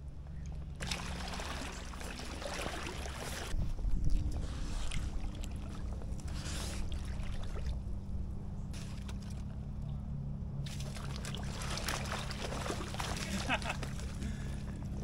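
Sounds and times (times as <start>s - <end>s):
low steady rumble: 0.0s - 15.0s
water sloshing around wading legs: 0.1s - 9.8s, 10.6s - 15.0s.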